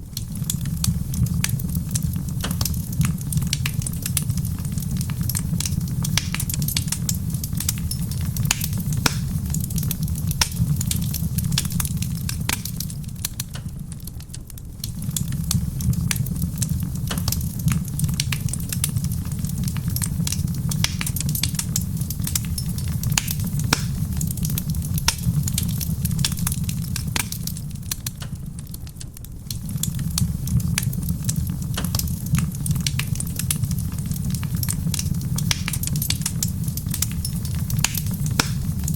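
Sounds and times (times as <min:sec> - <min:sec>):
soft rain on roof: 0:00.0 - 0:38.9
wood fire crackling and popping: 0:00.0 - 0:38.9.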